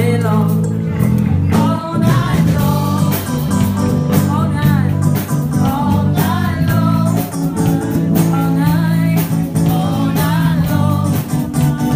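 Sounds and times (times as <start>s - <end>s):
live rock band with singer: 0.0s - 11.9s.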